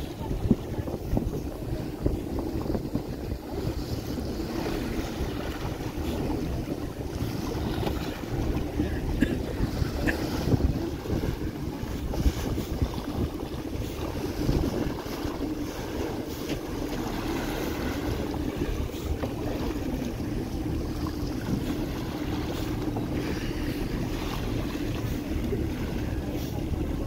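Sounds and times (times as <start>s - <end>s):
low engine drone: 0.0s - 27.0s
water rushing along hull: 0.0s - 27.0s
wind buffeting microphone: 0.0s - 27.0s.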